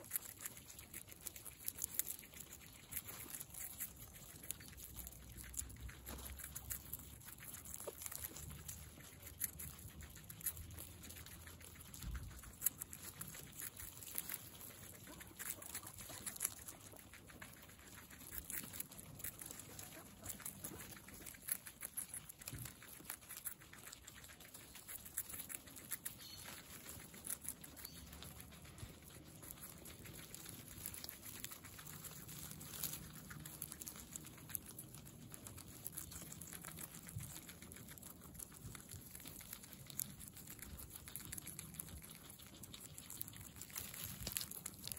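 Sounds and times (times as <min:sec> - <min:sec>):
guinea pigs chewing vegetables: 0:00.0 - 0:44.9.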